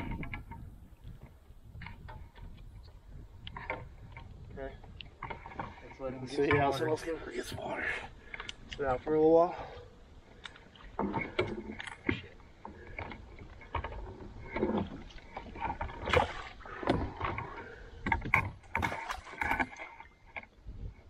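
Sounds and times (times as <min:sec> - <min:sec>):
water sloshing against kayak: 0:00.0 - 0:21.0.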